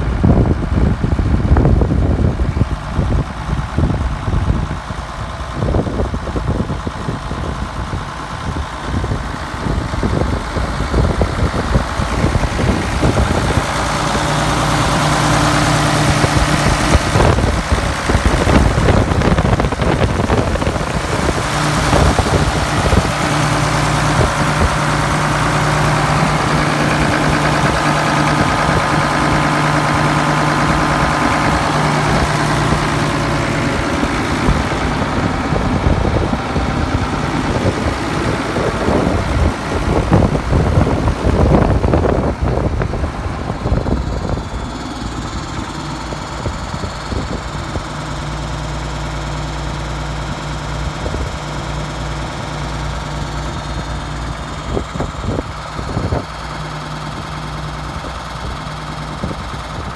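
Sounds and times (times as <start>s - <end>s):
engine knocks: 0.0s - 59.9s
tractor engine idling: 0.0s - 59.9s.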